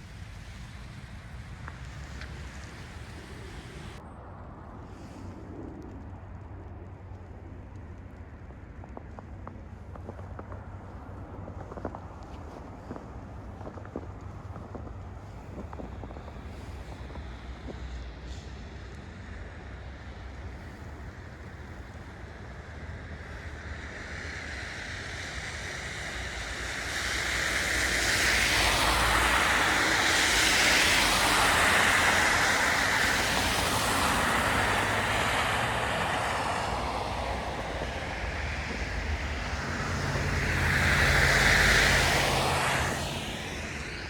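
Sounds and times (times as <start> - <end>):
vehicle tyres hissing past: 0.0 - 4.0, 10.1 - 44.0
low engine hum: 0.0 - 44.0.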